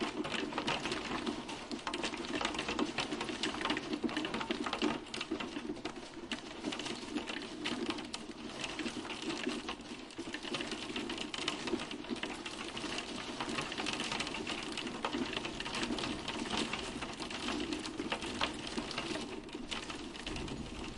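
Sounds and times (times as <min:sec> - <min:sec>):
hail ticking on hard surfaces: 0:00.0 - 0:20.9.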